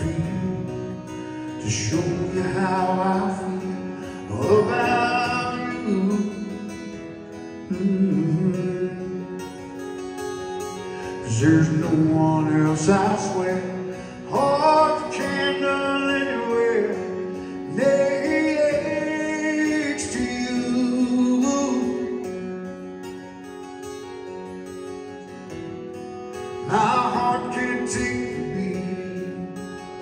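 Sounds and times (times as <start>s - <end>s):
man singing: 0.0s - 9.7s, 11.1s - 22.5s, 26.5s - 30.0s
acoustic guitar: 0.0s - 30.0s.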